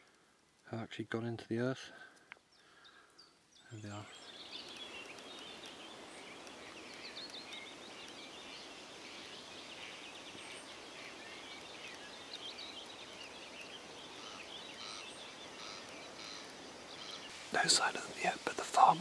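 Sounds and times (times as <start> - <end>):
steady outdoor hiss: 0.0 - 19.0
songbirds singing and chirping: 1.2 - 19.0.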